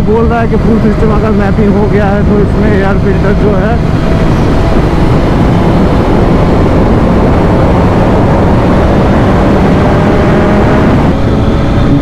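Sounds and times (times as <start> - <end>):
motorcycle engine: 0.0 - 12.0
wind rush over microphone: 0.0 - 12.0.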